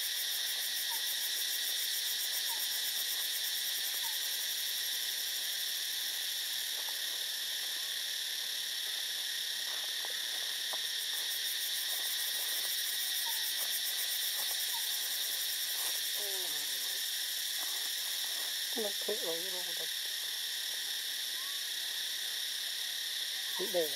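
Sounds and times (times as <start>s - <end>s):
forest insects chorus: 0.0s - 23.9s.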